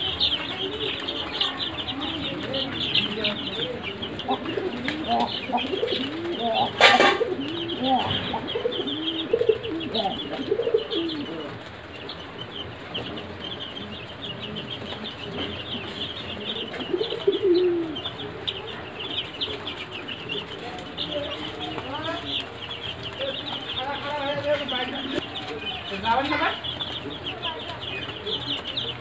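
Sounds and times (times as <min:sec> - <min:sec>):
chicks peeping: 0:00.0 - 0:29.0.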